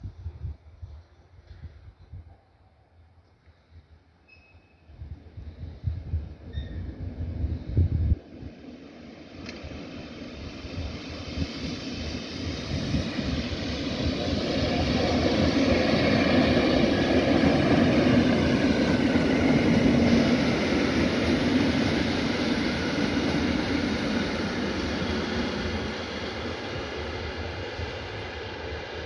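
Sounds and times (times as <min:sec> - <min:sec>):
train rumbling past: 0:00.0 - 0:29.0.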